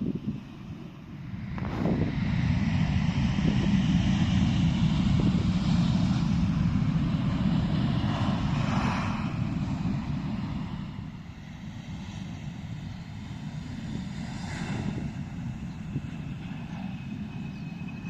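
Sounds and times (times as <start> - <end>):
jet airliner engine rumble: 0.0 - 18.0.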